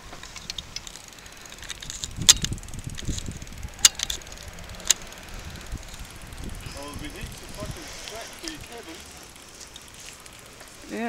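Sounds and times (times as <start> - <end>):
bicycle rattling and clicking: 0.0 - 11.0.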